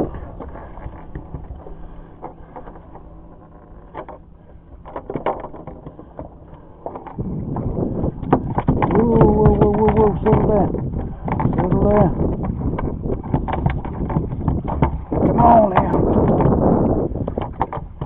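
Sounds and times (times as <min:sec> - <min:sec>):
clicks and knocks on boat deck: 0:00.0 - 0:18.0
low rumbling rustle: 0:00.0 - 0:18.0.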